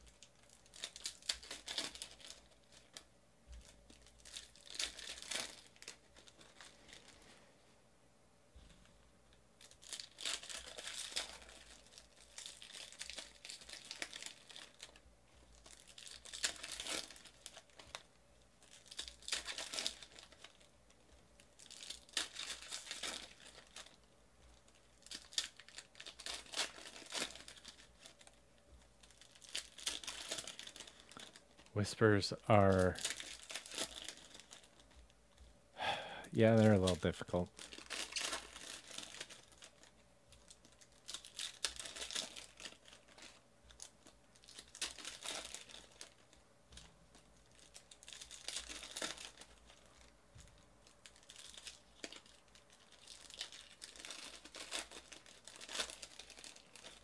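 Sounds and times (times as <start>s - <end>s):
wrappers torn and crinkling: 0.0s - 7.4s, 9.6s - 35.1s, 36.4s - 57.0s.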